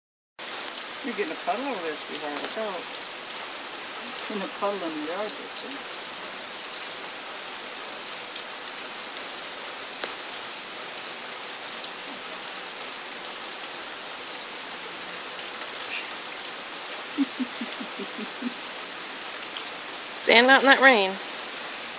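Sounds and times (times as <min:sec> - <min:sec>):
heavy rain pouring: 0:00.4 - 0:21.9.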